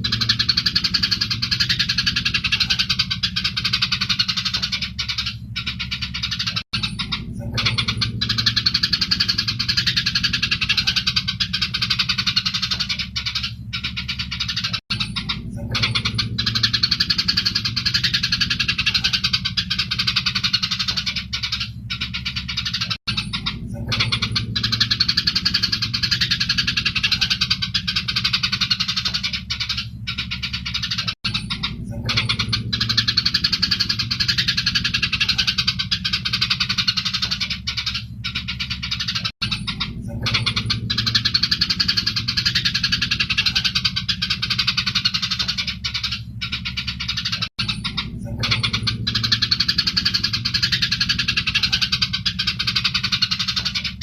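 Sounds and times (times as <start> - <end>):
sparrows chirping: 0.0 - 54.0
steady low hum: 0.0 - 54.0.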